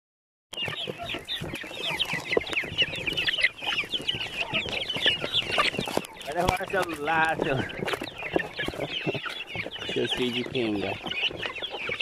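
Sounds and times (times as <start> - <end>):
chickens clucking and calling: 0.5 - 12.0.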